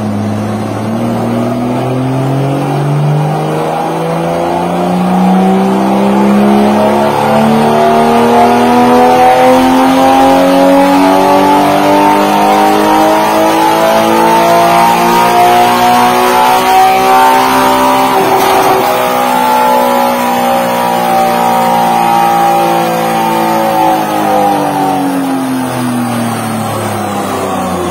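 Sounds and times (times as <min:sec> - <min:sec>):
sports car engine revving: 0:00.0 - 0:27.9.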